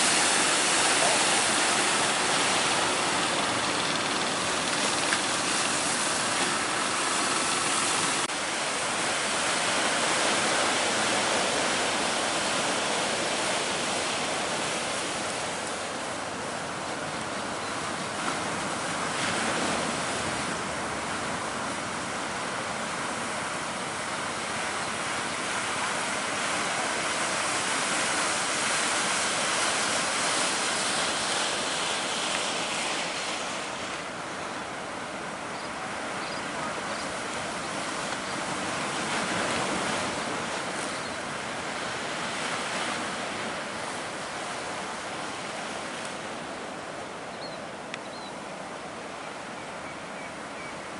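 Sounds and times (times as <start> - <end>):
waves breaking: 0.0 - 49.8.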